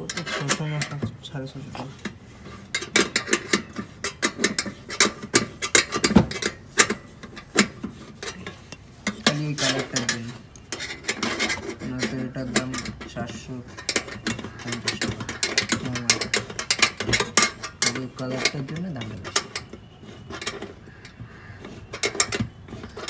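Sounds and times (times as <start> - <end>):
metal clicks and clinks: 2.0 - 23.0.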